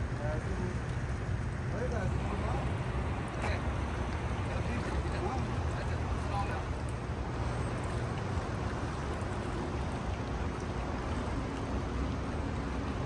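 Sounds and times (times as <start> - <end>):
river water rushing: 0.0 - 13.0
wind: 0.0 - 13.0.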